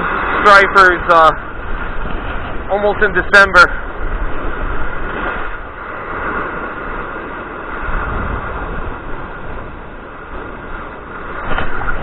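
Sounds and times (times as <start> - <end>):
strong wind on microphone: 0.0 - 12.0.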